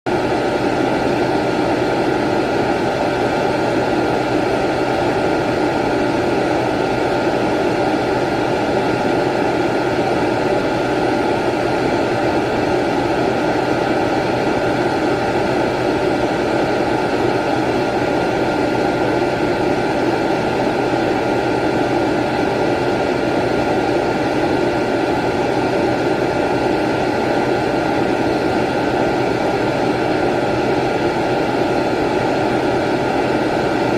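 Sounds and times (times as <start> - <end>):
vacuum cleaner running: 0.1 - 33.9.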